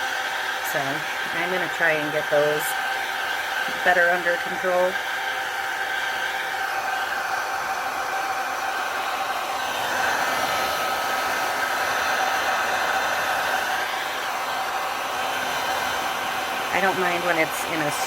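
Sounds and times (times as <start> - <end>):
heat gun blowing: 0.0 - 18.0.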